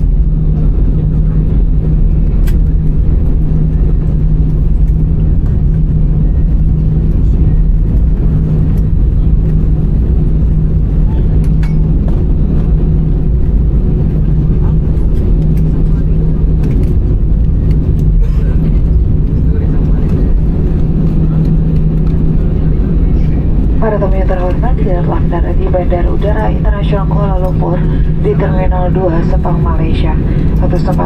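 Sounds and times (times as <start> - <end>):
aircraft cabin engine rumble: 0.0 - 31.0
constant hum: 0.0 - 31.0.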